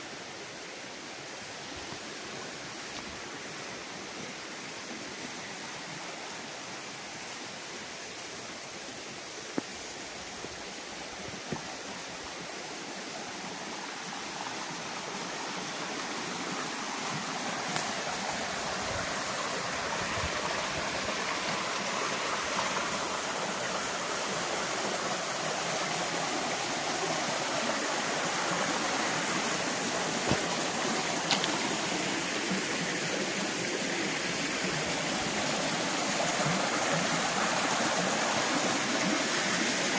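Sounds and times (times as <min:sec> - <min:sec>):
rushing mountain stream: 0:00.0 - 0:39.9.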